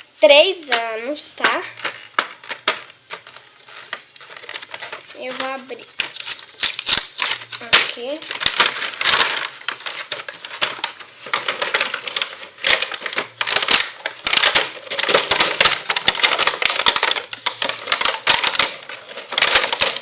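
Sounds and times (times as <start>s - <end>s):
plastic packaging crinkling: 0.2s - 20.0s
small plastic pieces rattling: 0.7s - 20.0s.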